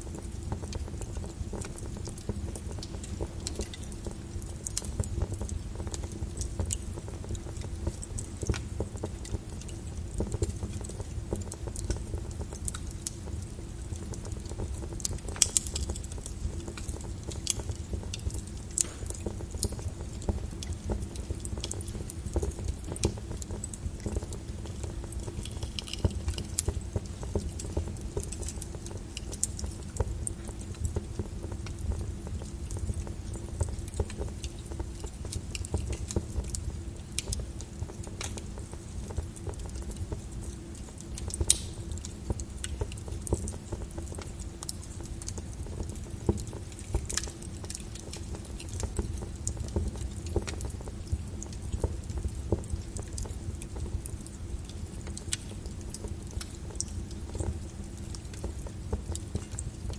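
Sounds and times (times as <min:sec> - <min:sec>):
rain on a window: 0:00.0 - 0:59.9
wood fire crackling: 0:00.0 - 0:59.9.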